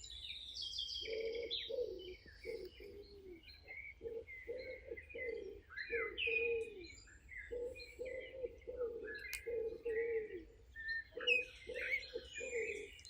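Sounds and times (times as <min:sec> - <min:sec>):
small birds chirping and trilling: 0:00.0 - 0:13.0
pigeons cooing: 0:01.0 - 0:13.0.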